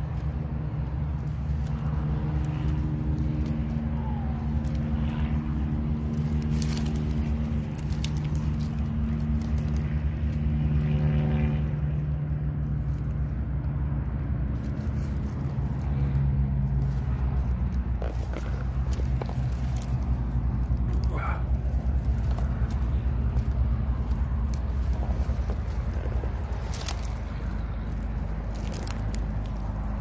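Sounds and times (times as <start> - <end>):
dry leaves and twigs crackling: 0.0 - 30.0
low engine-like hum: 0.0 - 30.0.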